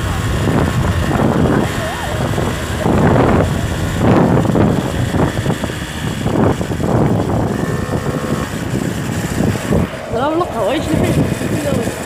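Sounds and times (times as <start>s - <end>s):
road noise on rough road: 0.0s - 12.0s
vehicle engine: 0.0s - 12.0s.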